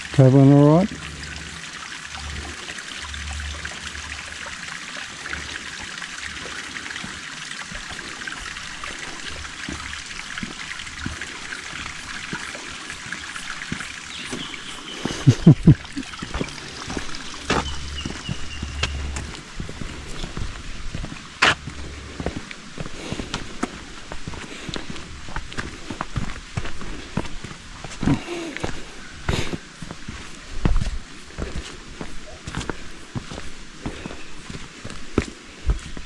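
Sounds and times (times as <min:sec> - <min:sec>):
running water hissing: 0:00.0 - 0:36.0.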